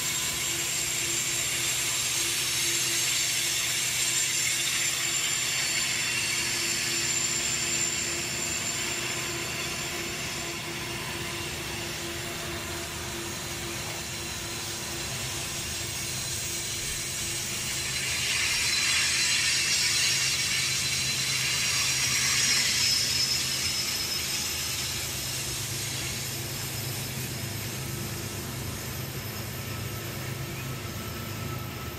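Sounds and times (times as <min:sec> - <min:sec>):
high wheel squeal: 0:00.0 - 0:31.9
train wheels rumbling on rail: 0:00.0 - 0:31.9.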